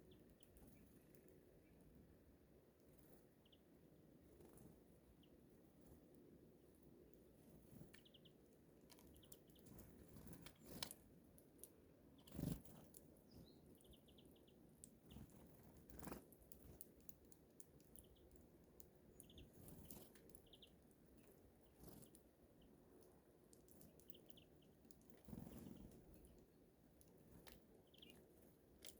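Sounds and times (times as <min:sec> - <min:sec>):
birds pecking seeds: 0:00.0 - 0:28.9.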